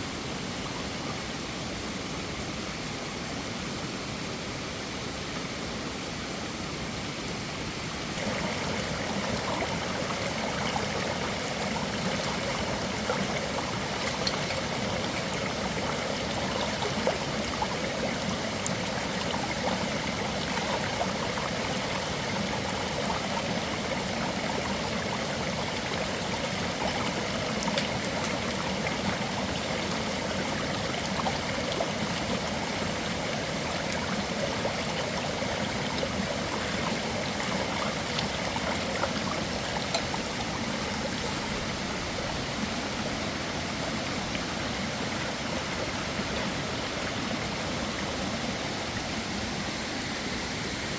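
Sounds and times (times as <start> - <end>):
stream of running water: 0.0 - 50.9.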